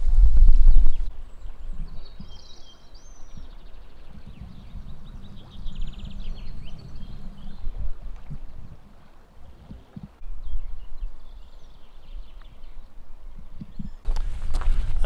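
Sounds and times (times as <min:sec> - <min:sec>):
songbird singing chirps and trills: 0:00.0 - 0:14.2
wind rumble on microphone: 0:00.0 - 0:15.0.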